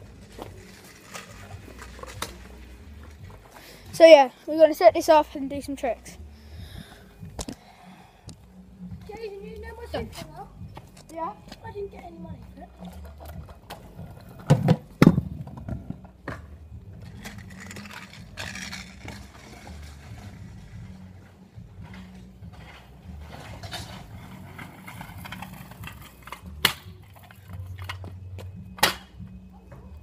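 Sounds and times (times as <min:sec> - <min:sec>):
wheels rolling on tarmac: 0:00.0 - 0:07.7, 0:09.0 - 0:28.6.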